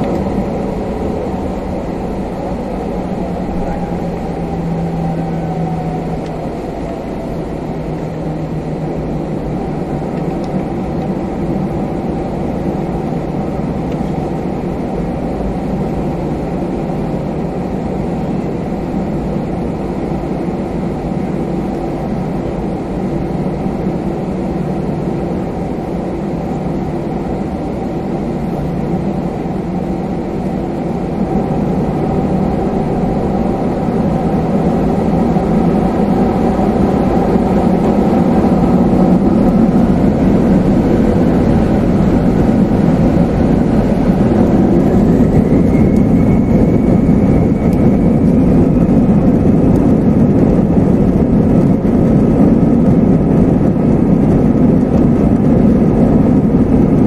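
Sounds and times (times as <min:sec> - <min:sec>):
high engine whine: 0:00.0 - 0:57.0
jet engine drone: 0:00.0 - 0:57.0.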